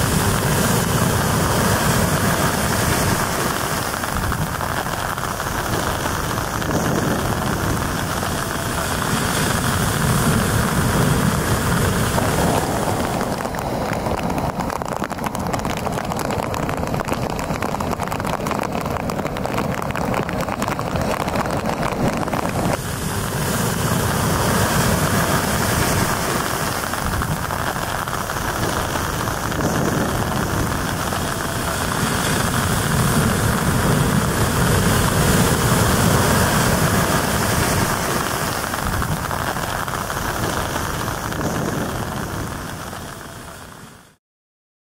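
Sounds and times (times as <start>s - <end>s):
ocean surf breaking: 0.0s - 43.8s.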